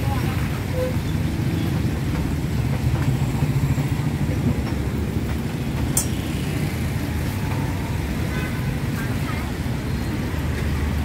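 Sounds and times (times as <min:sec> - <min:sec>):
motorbikes and traffic rumbling: 0:00.0 - 0:11.0.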